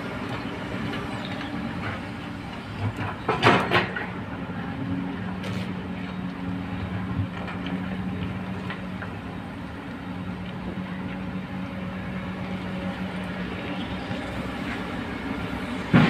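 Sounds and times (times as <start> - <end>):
excavator diesel engines running: 0.0 - 16.0.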